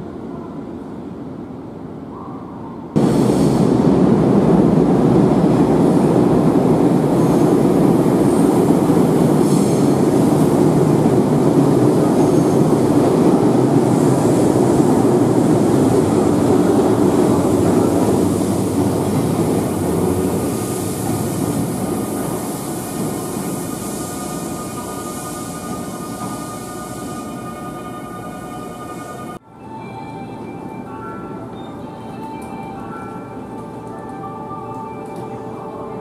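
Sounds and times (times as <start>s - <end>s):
electric train rumbling on rails: 0.0s - 36.0s.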